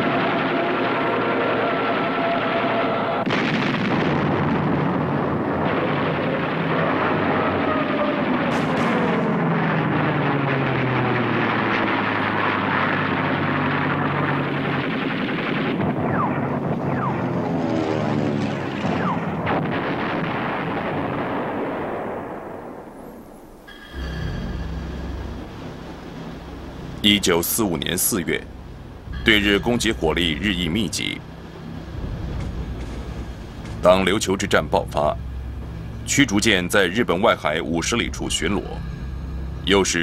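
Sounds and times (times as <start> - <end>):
aircraft engine drone: 0.0 - 21.5, 22.6 - 40.0
anti-aircraft guns firing: 0.0 - 23.1, 24.5 - 39.8.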